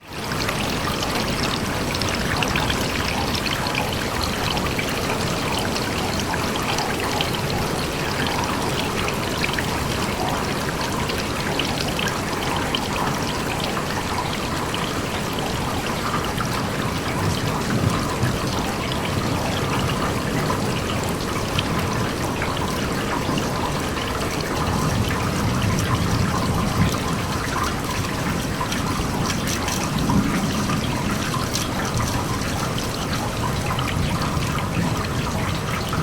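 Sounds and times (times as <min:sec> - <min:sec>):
rainwater pouring and trickling: 0:00.0 - 0:36.0.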